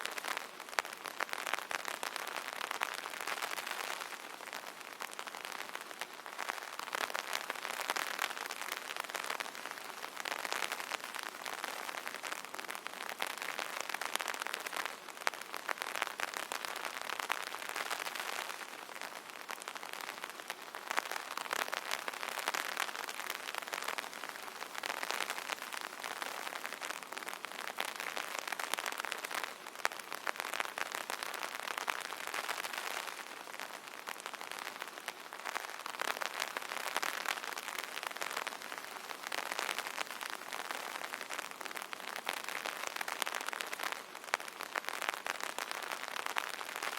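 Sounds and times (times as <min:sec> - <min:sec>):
rain drumming on an umbrella: 0:00.0 - 0:46.9.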